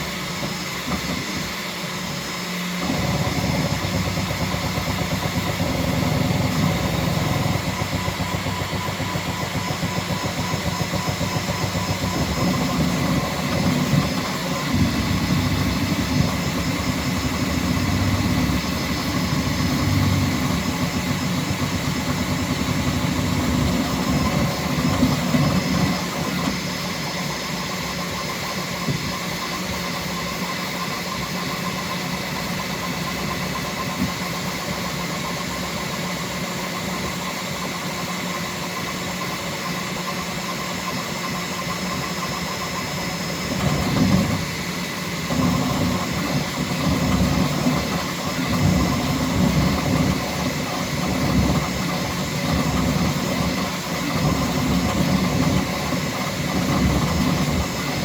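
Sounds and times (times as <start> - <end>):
three d printer mechanical hum: 0.0 - 58.0.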